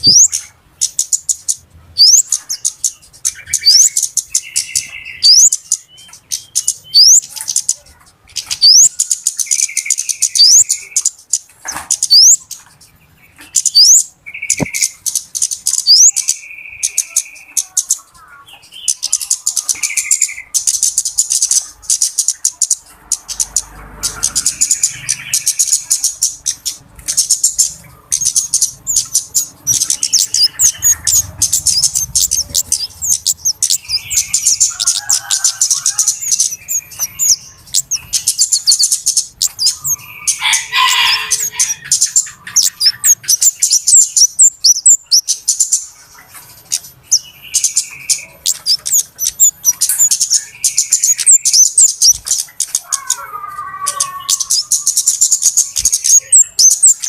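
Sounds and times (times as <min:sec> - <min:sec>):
flowerpeckers calling: 0:00.0 - 0:57.0.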